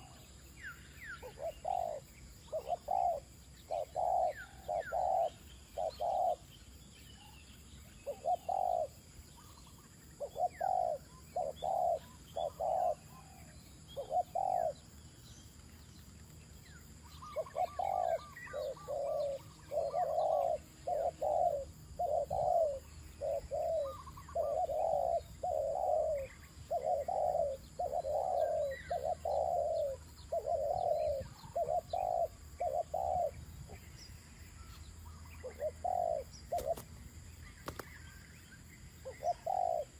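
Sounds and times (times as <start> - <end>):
doves cooing: 0.0 - 0.3, 1.1 - 6.5, 8.0 - 14.9, 17.0 - 33.9, 35.3 - 37.0, 39.0 - 39.9
small birds chirping: 0.0 - 39.9.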